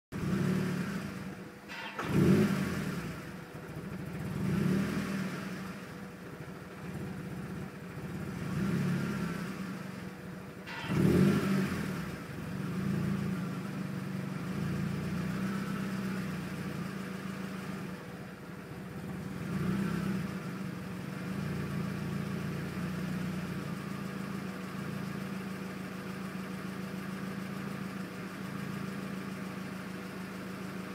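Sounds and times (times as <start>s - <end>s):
car engine idling roughly: 0.1s - 30.9s.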